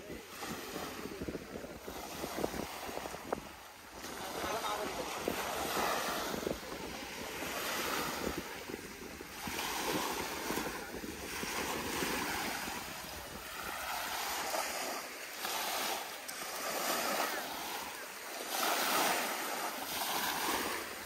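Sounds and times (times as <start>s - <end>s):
small waves breaking on sand: 0.0s - 21.0s.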